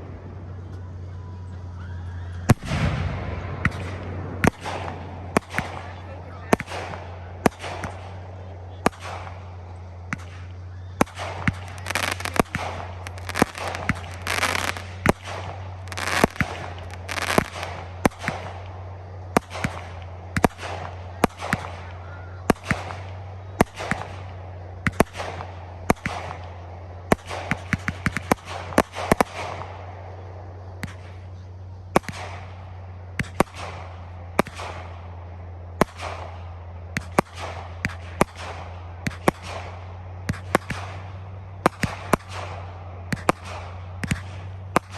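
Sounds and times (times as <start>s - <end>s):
fireworks bursting: 0.0s - 44.9s
low hum: 0.0s - 44.9s.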